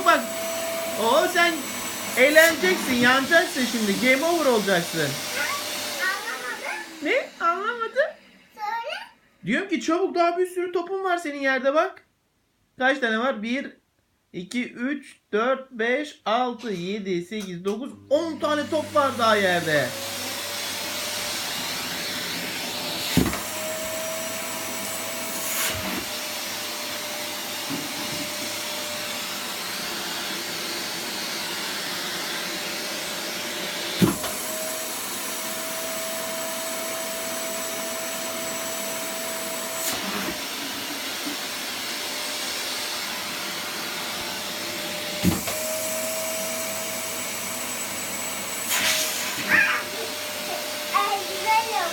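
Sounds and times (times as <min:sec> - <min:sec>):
vacuum cleaner running: 0:00.0 - 0:09.0, 0:18.0 - 0:51.9.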